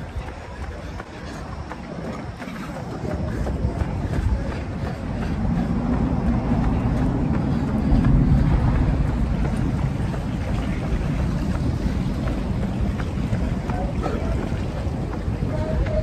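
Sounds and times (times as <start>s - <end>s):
wind buffeting microphone: 0.0s - 16.0s
low rumble: 1.9s - 16.0s.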